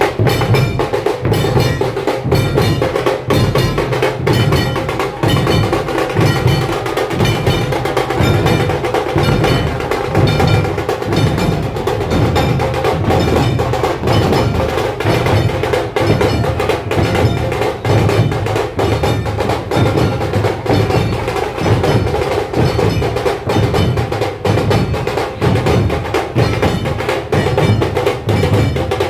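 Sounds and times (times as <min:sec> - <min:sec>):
deep drum beat: 0:00.0 - 0:29.0
rapid stick drum strokes: 0:00.0 - 0:29.0.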